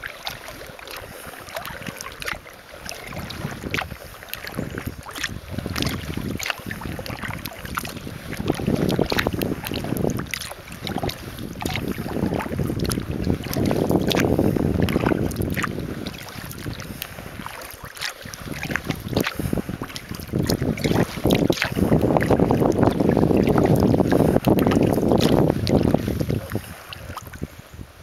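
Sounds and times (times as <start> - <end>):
paddle water splashing and dripping: 0.0 - 27.8
wind buffeting microphone: 0.0 - 28.0.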